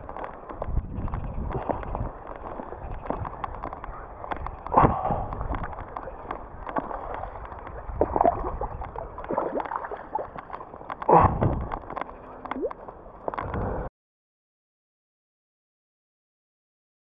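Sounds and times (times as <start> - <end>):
water splashing and sloshing: 0.0 - 13.9.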